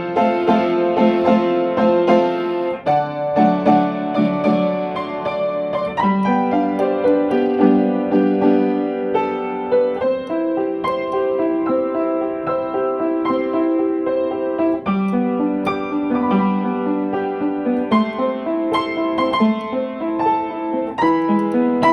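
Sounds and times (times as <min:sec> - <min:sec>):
solo piano music: 0:00.0 - 0:21.9.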